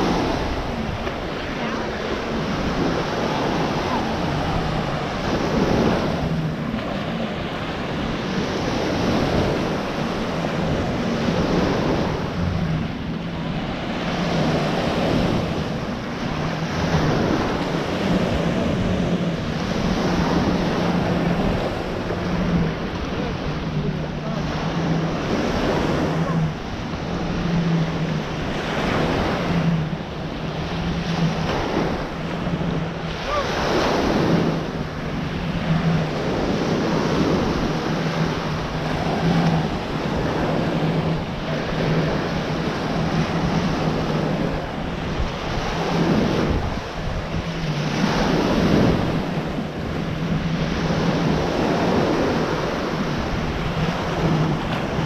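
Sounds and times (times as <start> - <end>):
low hum: 0.0 - 55.0
ocean surf breaking on sand: 0.0 - 55.0
wind buffeting microphone: 0.0 - 55.0.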